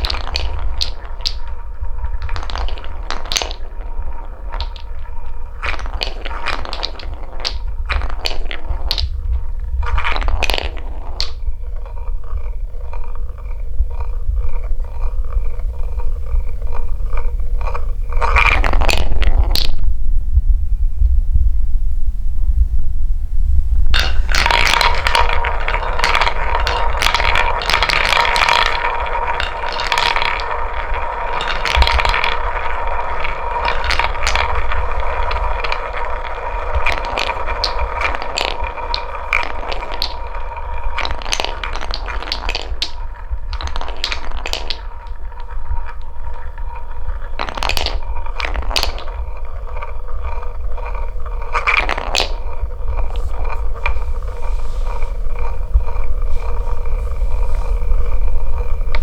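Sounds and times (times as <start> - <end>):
balls clicking against wood: 0.0 - 19.9, 23.9 - 59.0
balls rolling on wooden track: 0.0 - 20.4, 23.7 - 59.0.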